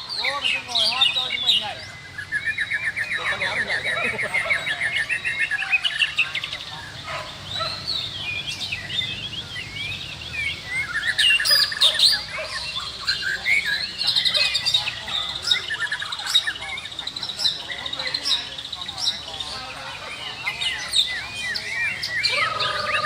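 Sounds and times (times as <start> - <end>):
birds singing whistles and chirps: 0.0 - 23.0.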